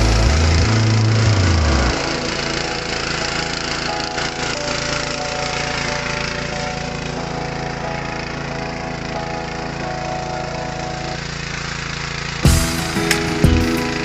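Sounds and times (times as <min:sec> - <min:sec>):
cultivator petrol engine running: 0:00.0 - 0:09.8, 0:10.7 - 0:14.0.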